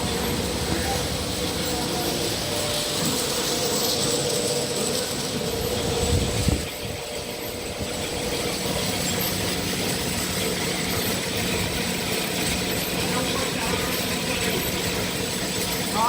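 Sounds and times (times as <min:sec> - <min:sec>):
faint constant tones: 0:00.0 - 0:16.0
washing machine whirring: 0:00.0 - 0:16.0.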